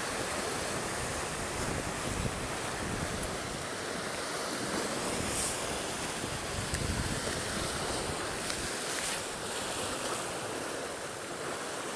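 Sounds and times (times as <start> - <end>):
sea waves breaking on rocks: 0.0 - 11.9
wind buffeting microphone: 0.1 - 10.0.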